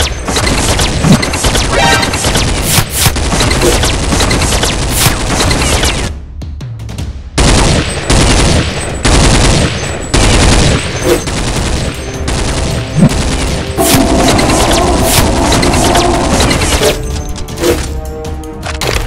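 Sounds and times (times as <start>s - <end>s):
machine-gun fire bursts: 0.0s - 6.1s, 7.4s - 17.0s.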